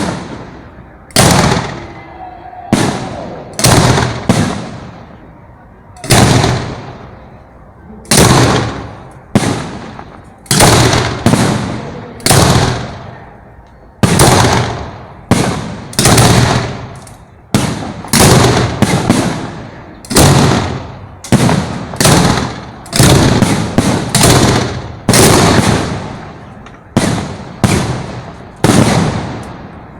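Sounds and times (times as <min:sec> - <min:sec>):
fireworks bangs: 0:00.0 - 0:07.4, 0:08.0 - 0:29.9.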